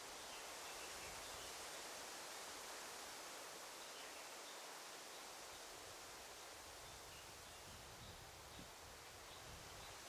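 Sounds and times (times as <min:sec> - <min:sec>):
rustling leaves: 0:00.0 - 0:10.0.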